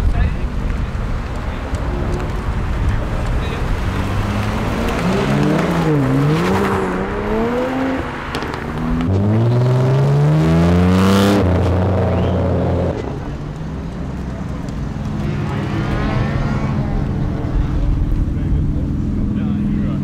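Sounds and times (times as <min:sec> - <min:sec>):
sports car engines accelerating: 0:00.3 - 0:20.0.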